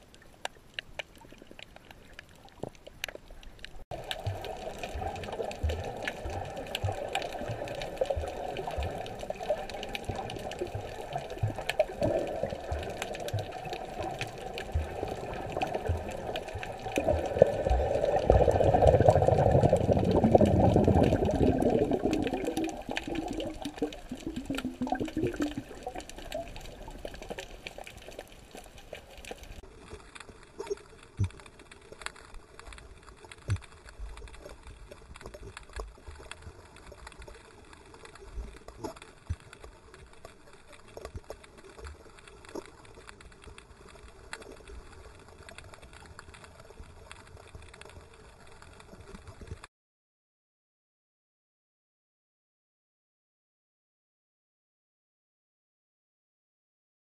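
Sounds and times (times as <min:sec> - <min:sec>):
muffled underwater water noise: 0:00.0 - 0:49.7.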